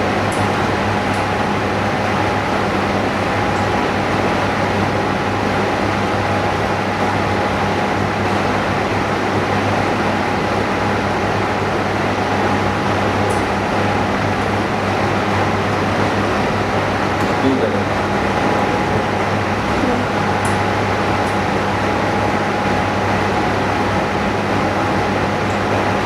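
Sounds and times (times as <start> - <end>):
motor droning with electric hum: 0.0 - 26.0.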